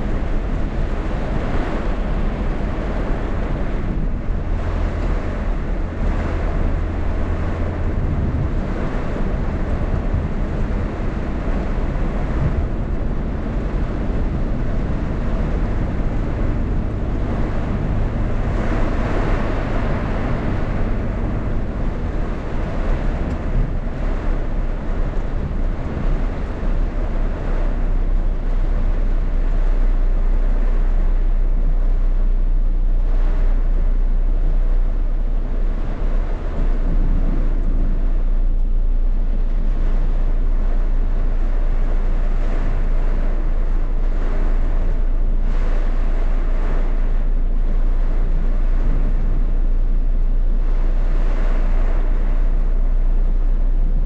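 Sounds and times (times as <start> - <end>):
heavy rain: 0.0 - 54.0
wind buffeting microphone: 0.0 - 54.0.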